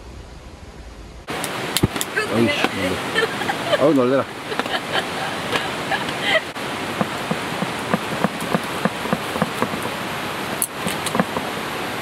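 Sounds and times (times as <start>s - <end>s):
water hissing: 1.3s - 12.0s.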